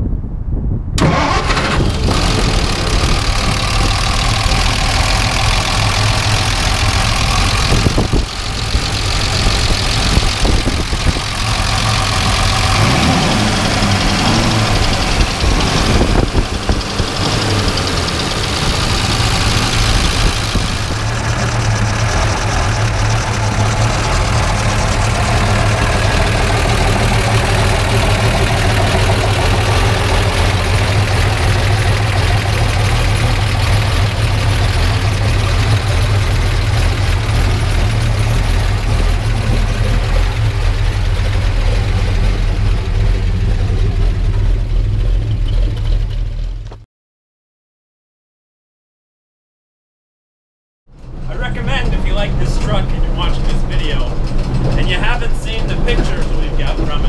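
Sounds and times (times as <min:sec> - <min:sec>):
truck engine running: 0:01.0 - 0:46.8, 0:50.9 - 0:57.0.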